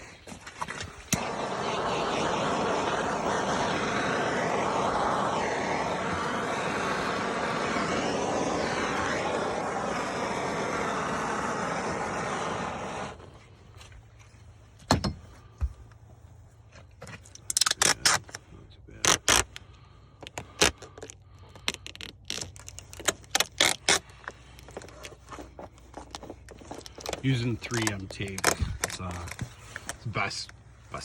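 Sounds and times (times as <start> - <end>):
torch flame hissing: 0.8 - 13.6, 19.0 - 31.0.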